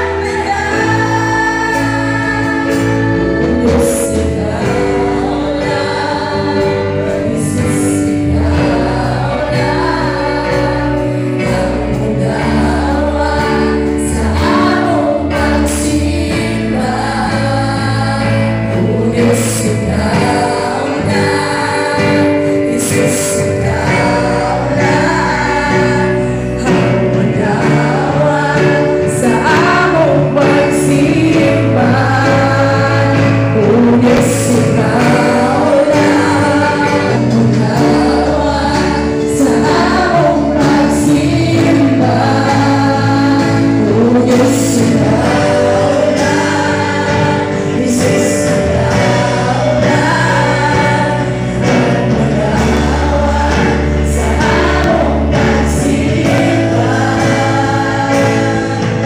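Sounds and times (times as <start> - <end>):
band playing: 0.0 - 59.0
congregation singing: 0.0 - 59.0
woman singing lead vocal: 0.0 - 59.0.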